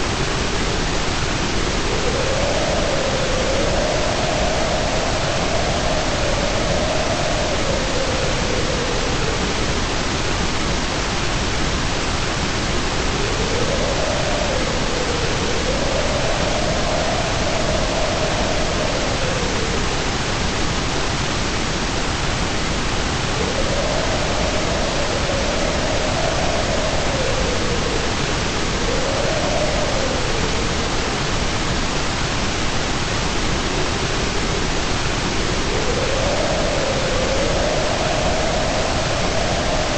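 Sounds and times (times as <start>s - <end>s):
synthetic white noise hiss: 0.0s - 39.9s.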